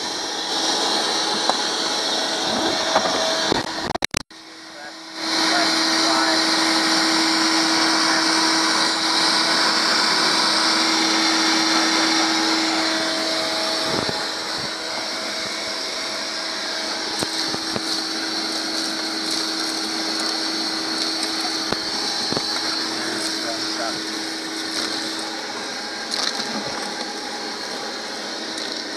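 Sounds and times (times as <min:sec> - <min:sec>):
shop vacuum running: 0:00.0 - 0:28.9.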